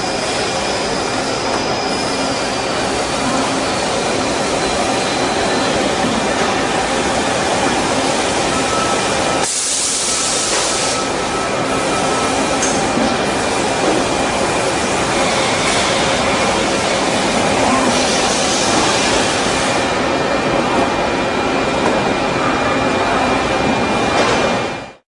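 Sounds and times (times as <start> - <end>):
lathe machining noise: 0.0 - 20.1.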